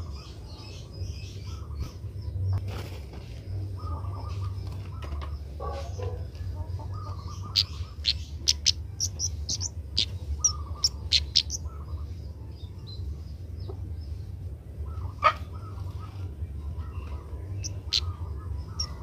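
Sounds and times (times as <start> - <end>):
steady low hum: 0.0 - 19.0
bird chirping: 3.3 - 19.0.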